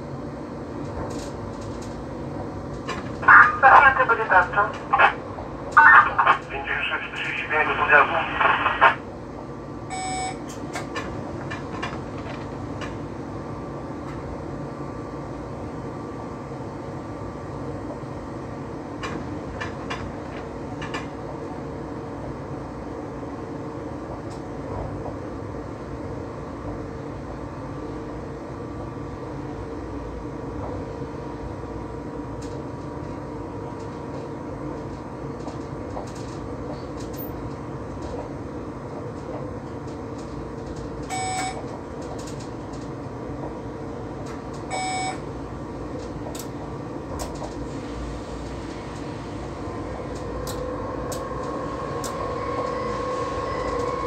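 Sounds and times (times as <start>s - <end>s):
electric train rumble: 0.0s - 54.0s.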